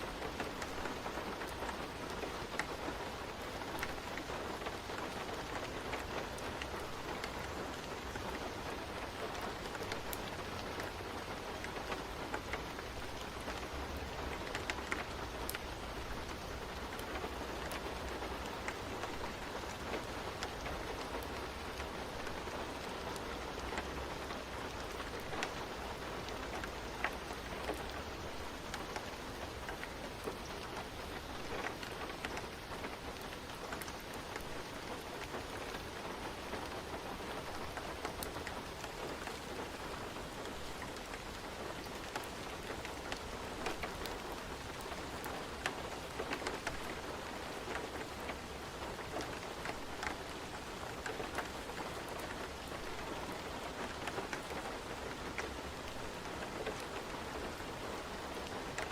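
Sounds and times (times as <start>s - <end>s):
rain pattering on a surface: 0.0s - 58.9s.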